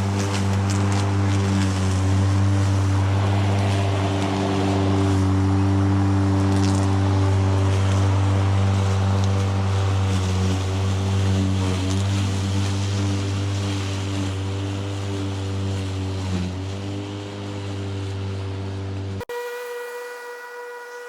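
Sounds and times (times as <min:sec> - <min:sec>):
grass being cut: 0:00.0 - 0:21.0
lawnmower motor and blade hum: 0:00.0 - 0:21.0.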